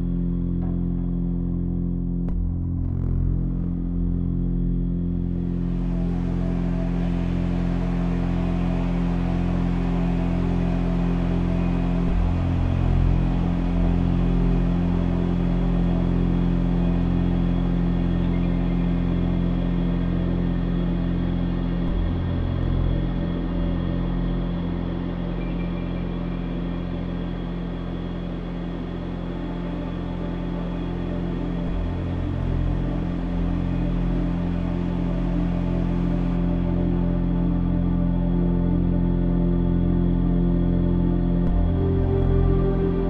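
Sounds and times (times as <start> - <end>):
deep low drone: 0.0 - 43.0.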